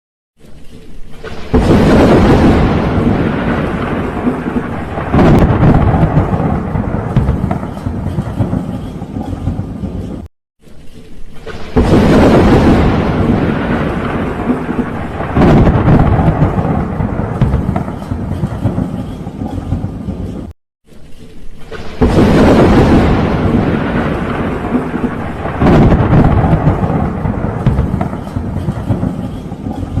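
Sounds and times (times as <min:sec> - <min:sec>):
thunder clap and rumble: 0:01.2 - 0:10.3, 0:11.4 - 0:20.5, 0:21.7 - 0:30.0.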